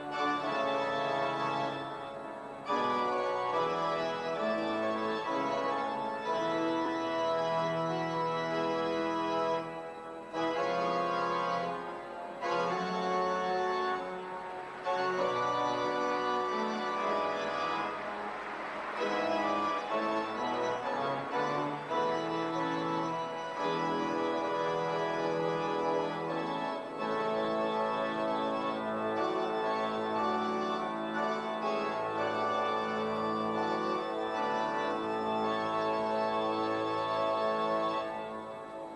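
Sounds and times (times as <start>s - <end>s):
organ playing chords: 0.0s - 38.9s.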